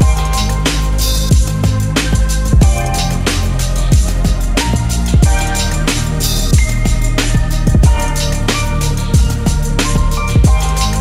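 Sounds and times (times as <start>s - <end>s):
deep bass kicks: 0.0s - 11.0s
electronic beat with drums: 0.0s - 11.0s.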